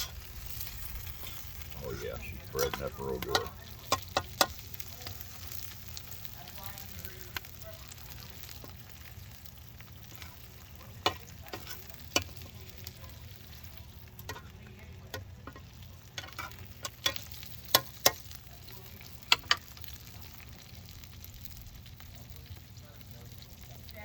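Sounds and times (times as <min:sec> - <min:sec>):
oil popping: 0:00.0 - 0:22.0
food sizzling in oil: 0:00.0 - 0:24.0.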